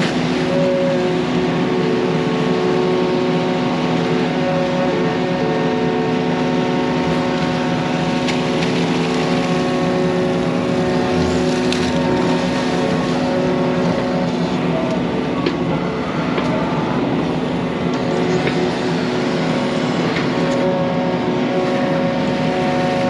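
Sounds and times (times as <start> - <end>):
excavator engine running: 0.0 - 23.0.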